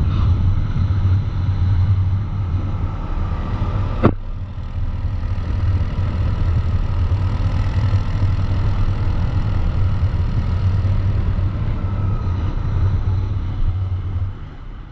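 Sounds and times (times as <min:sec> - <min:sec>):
atv engine droning: 0:00.0 - 0:14.9.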